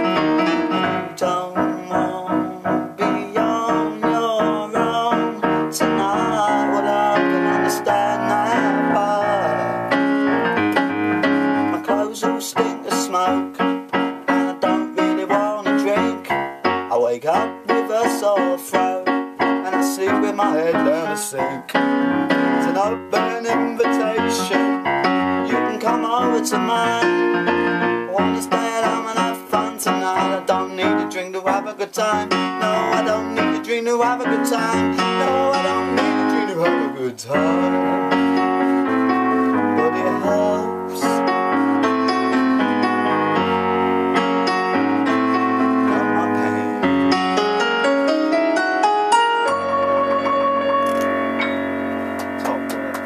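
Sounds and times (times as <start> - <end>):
electronic keyboard playing: 0.0 - 53.0.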